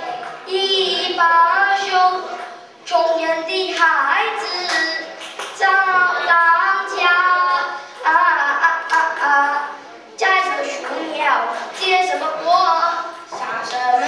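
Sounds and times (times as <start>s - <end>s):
boy singing: 0.5s - 14.0s.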